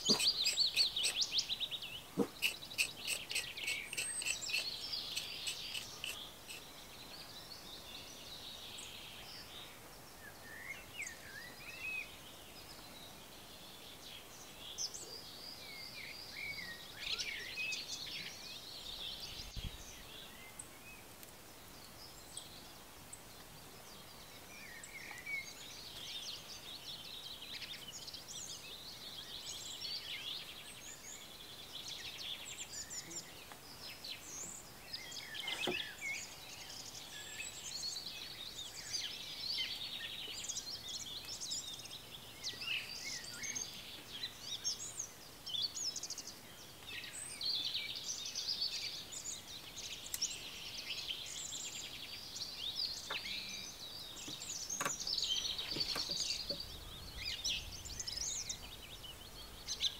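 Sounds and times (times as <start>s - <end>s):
faint outdoor background: 0.0s - 59.9s
songbirds singing and chirping: 0.0s - 59.9s.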